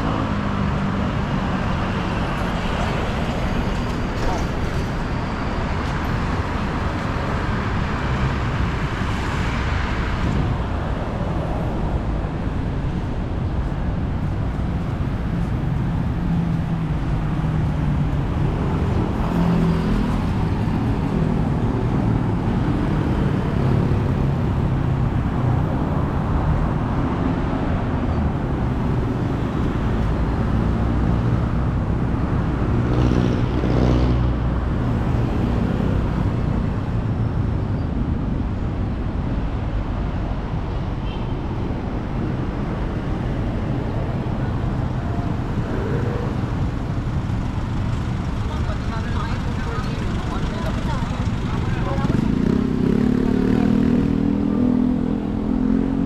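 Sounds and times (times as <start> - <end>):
road traffic noise: 0.0 - 56.0
vehicle engine hum: 0.0 - 56.0.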